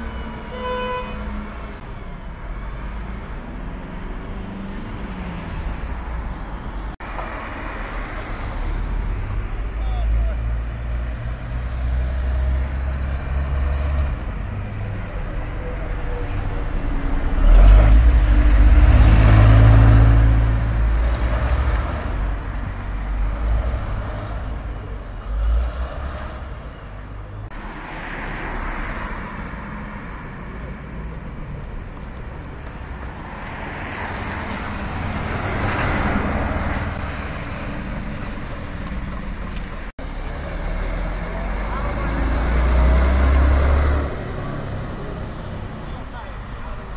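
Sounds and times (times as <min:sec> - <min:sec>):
buses passing with diesel rumble: 0:00.0 - 0:46.9
tyre and traffic noise: 0:00.0 - 0:46.9.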